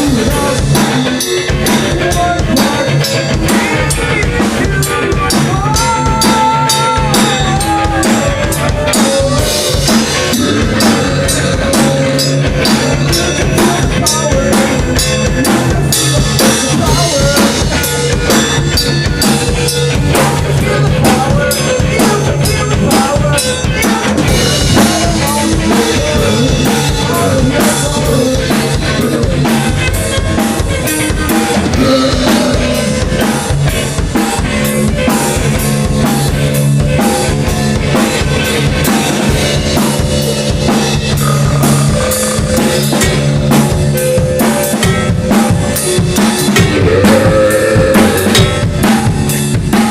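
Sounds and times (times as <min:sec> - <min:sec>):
band music: 0:00.0 - 0:49.9
bass line: 0:00.0 - 0:49.9
drum kit beat: 0:00.0 - 0:49.9.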